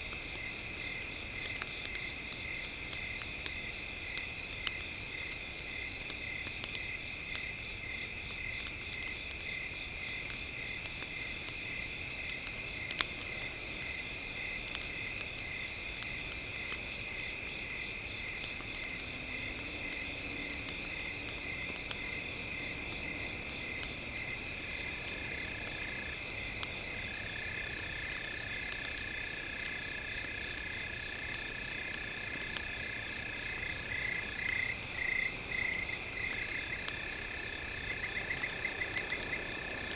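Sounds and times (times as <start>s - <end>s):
bonfire crackling and popping: 0.0s - 39.9s
insects chirping: 0.0s - 39.9s.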